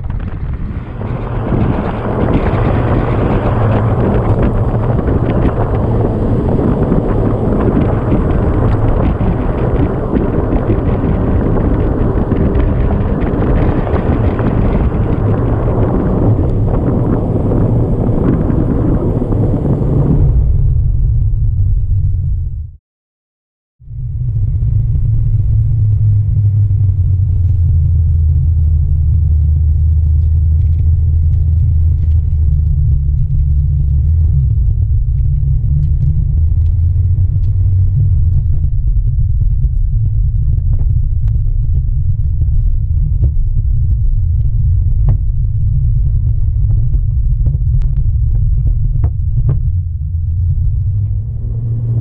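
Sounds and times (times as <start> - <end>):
wind and road rumble: 0.0 - 22.8, 23.8 - 52.0.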